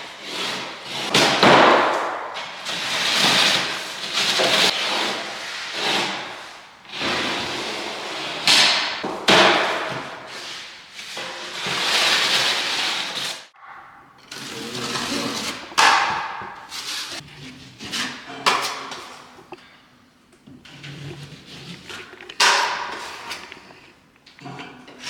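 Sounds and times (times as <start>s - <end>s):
scraping and rubbing on drywall: 0.0s - 25.0s.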